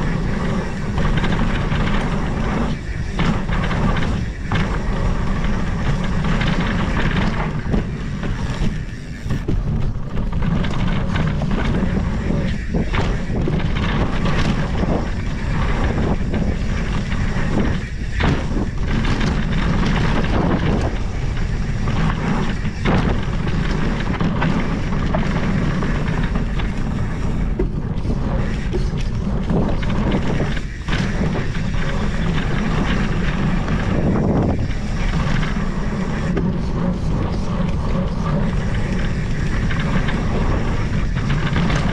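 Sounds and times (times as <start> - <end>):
bike tyres rolling over dirt: 0.0 - 41.9
wind rumble on microphone: 0.0 - 41.9.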